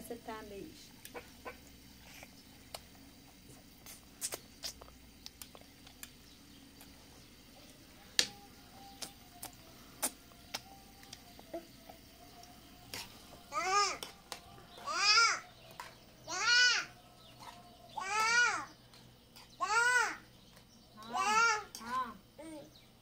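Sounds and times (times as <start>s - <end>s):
toddler licking and eating: 1.0s - 22.7s.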